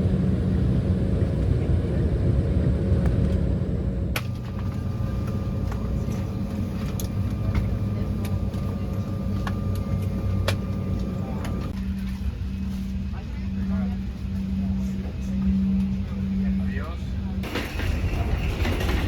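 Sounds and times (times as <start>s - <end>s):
engine hum: 0.0s - 19.0s
loud steady rumble: 0.0s - 19.0s.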